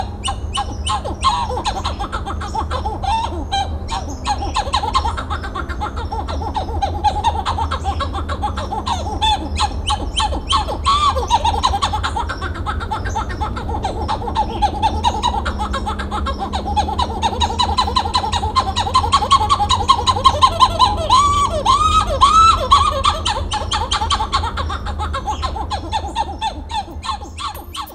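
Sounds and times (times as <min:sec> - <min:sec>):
monkey calling repeated notes: 0:00.0 - 0:27.9
monkey whooping: 0:00.0 - 0:27.9.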